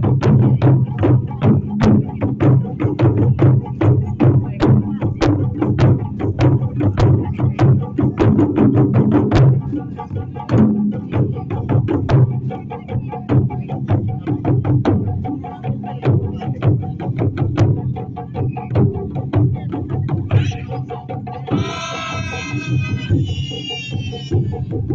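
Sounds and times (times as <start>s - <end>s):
drums in a fast rhythm: 0.0s - 24.9s.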